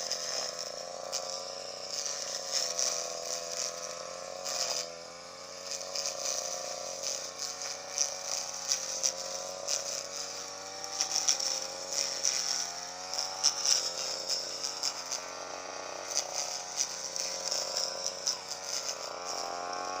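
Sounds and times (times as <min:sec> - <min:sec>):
grass cutter motor running: 0:00.0 - 0:20.0.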